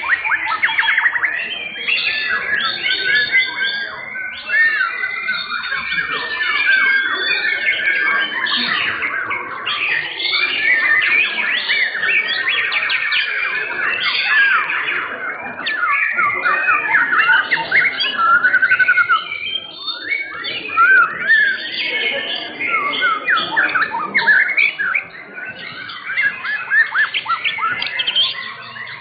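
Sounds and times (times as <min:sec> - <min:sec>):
bird song whistles and trills: 0:00.0 - 0:29.0.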